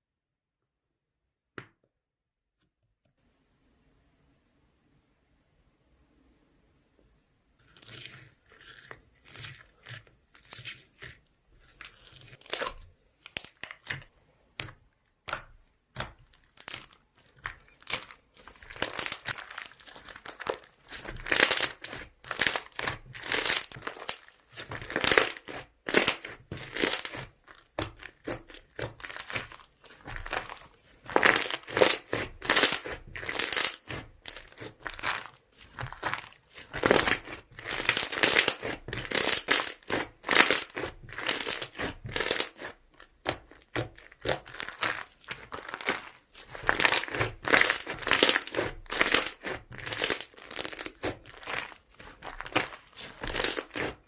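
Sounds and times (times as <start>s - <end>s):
slime squishing: 7.6s - 54.0s.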